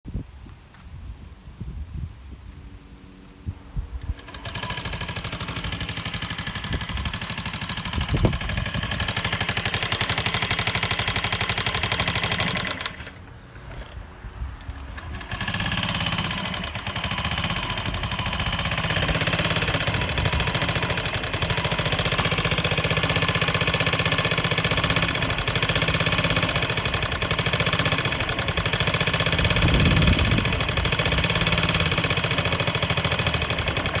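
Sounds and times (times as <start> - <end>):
scooter engine running rough: 4.0 - 34.0.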